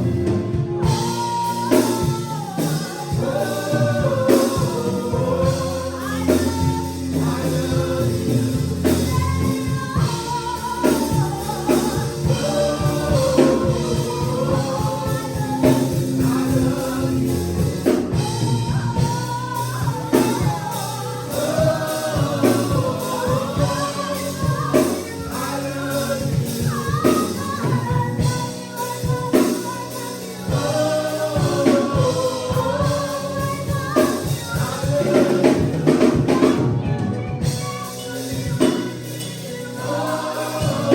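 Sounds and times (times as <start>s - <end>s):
drum kit: 0.0s - 40.9s
voices singing gospel: 0.0s - 40.9s.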